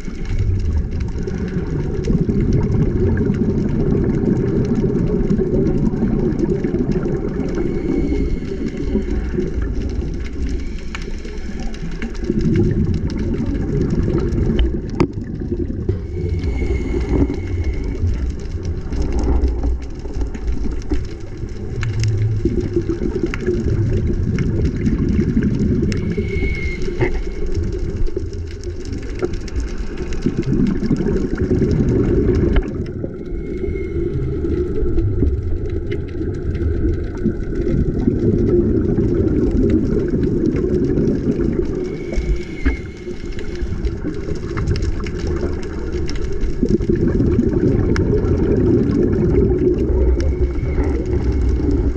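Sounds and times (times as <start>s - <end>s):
muffled underwater rumble: 0.0s - 51.9s.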